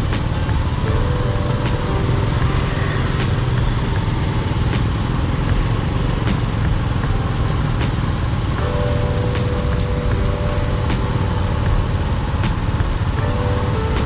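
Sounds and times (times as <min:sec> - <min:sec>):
motorbike engines running: 0:00.0 - 0:14.0
street traffic: 0:00.0 - 0:14.0.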